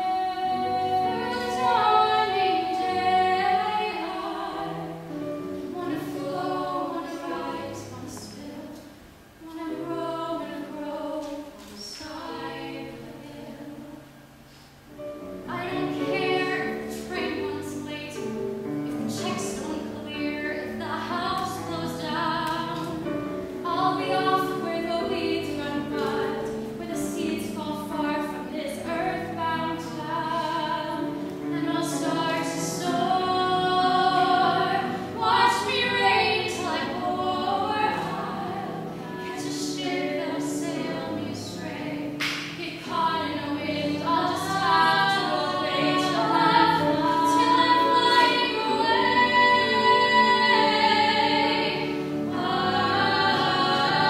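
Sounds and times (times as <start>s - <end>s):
girls singing a duet: 0.0s - 54.0s.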